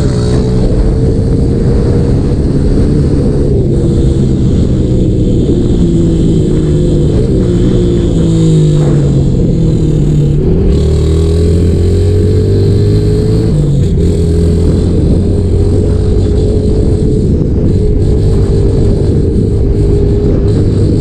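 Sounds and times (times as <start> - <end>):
loud motorcycle engine: 0.0 - 21.0
wind noise on microphone: 0.0 - 21.0.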